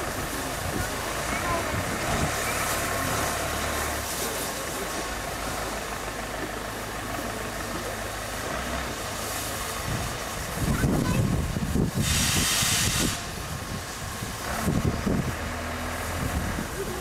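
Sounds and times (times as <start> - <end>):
diesel engine running: 0.0 - 17.0
steam hissing: 0.0 - 17.0.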